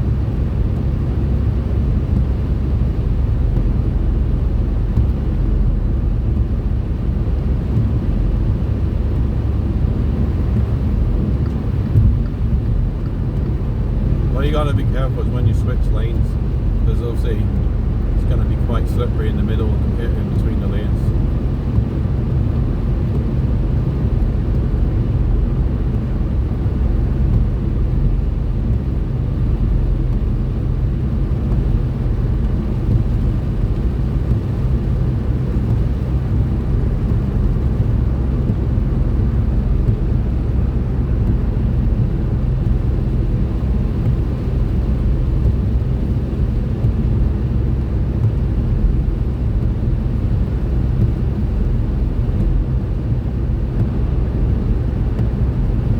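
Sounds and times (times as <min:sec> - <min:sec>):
tyres and engine rumble in car: 0:00.0 - 0:55.9.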